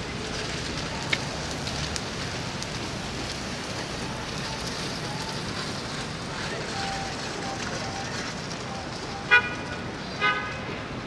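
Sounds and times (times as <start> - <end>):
street ambience hiss: 0.0 - 11.0.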